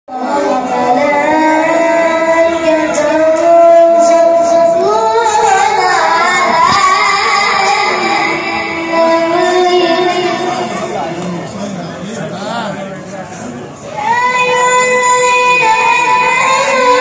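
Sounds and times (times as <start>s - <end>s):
boy chanting into a microphone: 0.1s - 11.4s, 13.8s - 17.0s.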